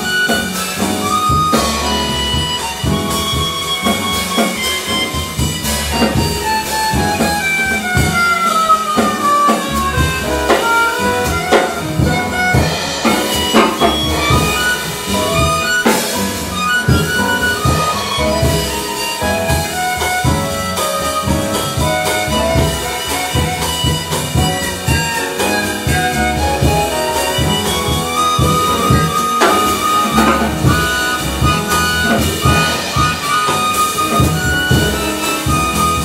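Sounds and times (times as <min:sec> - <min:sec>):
chromatic harmonica solo: 0:00.0 - 0:36.0
drum kit with cymbals: 0:00.0 - 0:36.0
upright bass: 0:00.0 - 0:36.0.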